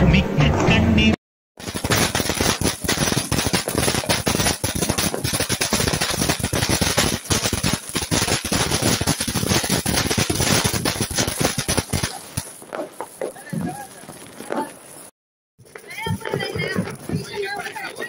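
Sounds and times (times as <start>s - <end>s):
fireworks crackling: 1.6s - 18.0s.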